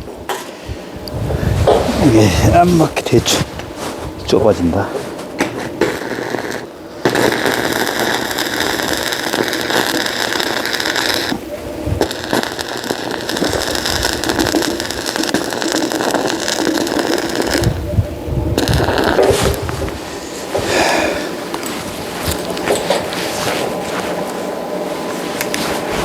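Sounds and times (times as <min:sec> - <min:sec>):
arc welding crackling: 0:00.0 - 0:26.0.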